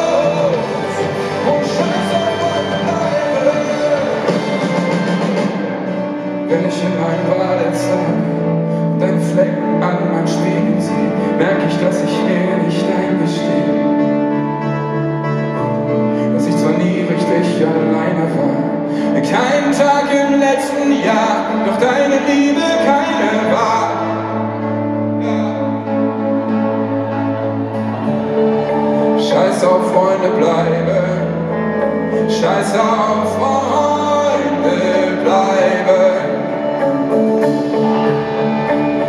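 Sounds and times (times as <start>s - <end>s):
live pop-rock band playing: 0.0s - 39.0s.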